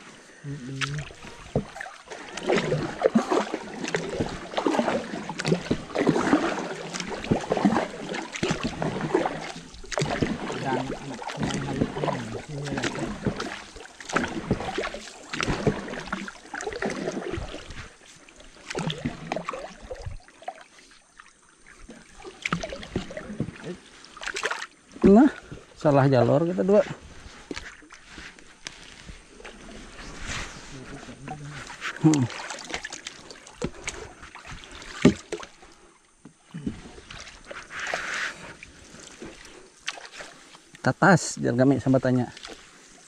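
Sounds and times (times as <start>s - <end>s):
paddles dipping in water: 0.0s - 43.0s
water sloshing against hull: 0.0s - 43.0s.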